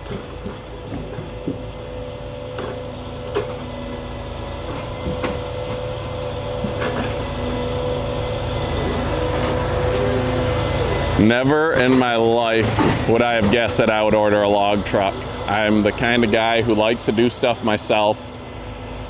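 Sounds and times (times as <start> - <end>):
hydraulic whine: 0.0 - 19.0
truck engine running: 0.0 - 19.0.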